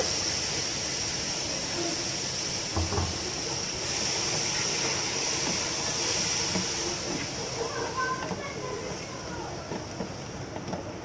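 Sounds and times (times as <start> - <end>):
paste sizzling in hot oil: 0.1 - 9.2.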